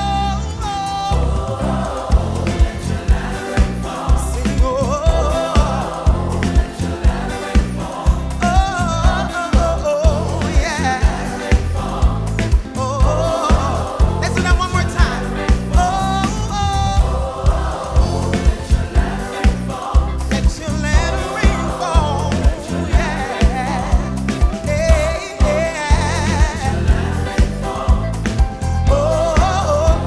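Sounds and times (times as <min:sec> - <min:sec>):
gospel band playing: 0:00.0 - 0:30.0
heavy bass: 0:00.0 - 0:30.0
people singing vocal runs: 0:00.0 - 0:30.0
drum beat: 0:01.2 - 0:30.0.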